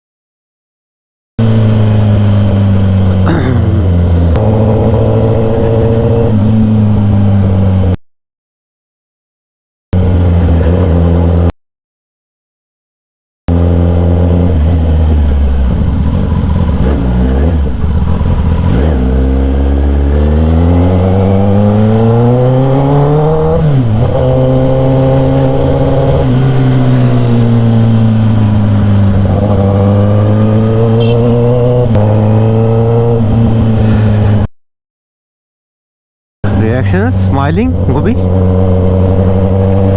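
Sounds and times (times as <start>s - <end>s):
loud motorcycle engine revving: 1.4s - 7.9s, 10.0s - 11.5s, 13.5s - 34.5s, 36.4s - 39.9s.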